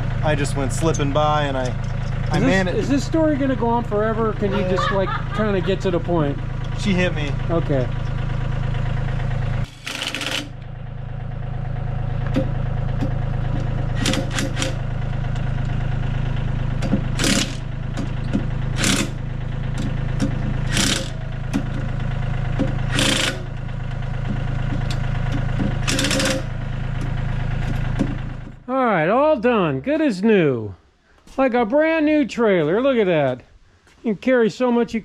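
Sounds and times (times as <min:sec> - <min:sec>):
engine idling: 0:00.0 - 0:30.1.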